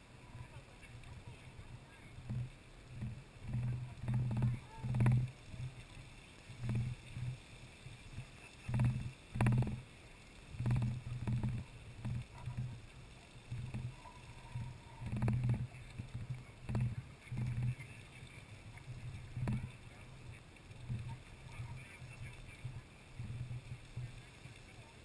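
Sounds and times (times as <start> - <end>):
geyser erupting bursts: 0.0 - 25.0
steady hiss: 0.0 - 25.0.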